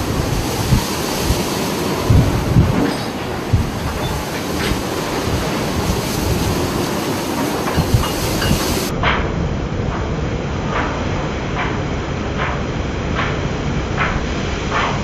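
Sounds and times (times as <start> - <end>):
rush of wind and sea: 0.0 - 15.0.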